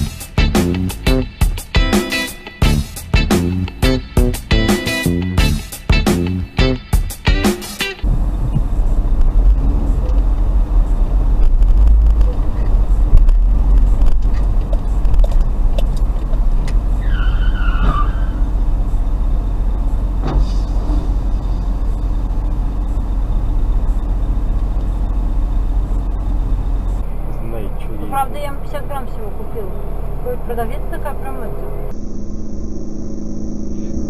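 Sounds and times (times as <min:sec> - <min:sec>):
car engine and road rumble: 0:02.5 - 0:06.8, 0:08.0 - 0:34.0.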